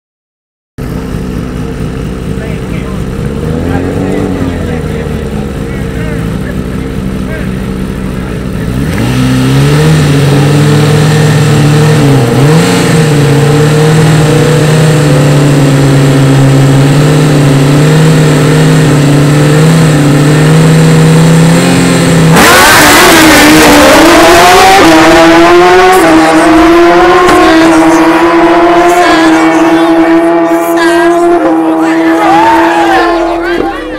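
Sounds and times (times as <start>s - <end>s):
motorcycle engines revving: 0.8s - 33.9s.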